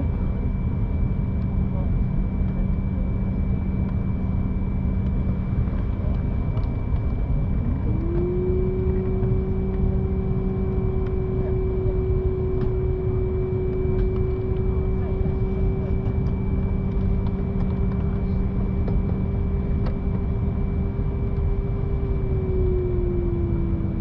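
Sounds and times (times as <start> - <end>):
vehicle rumble from inside: 3.8 - 24.0
whine rising in pitch: 4.7 - 24.0.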